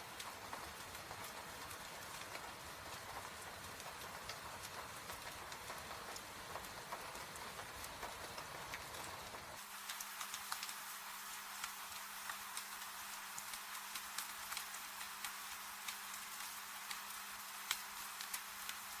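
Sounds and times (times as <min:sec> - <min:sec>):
soft rain hiss: 0:00.0 - 0:19.0
wood fire crackling: 0:00.0 - 0:19.0.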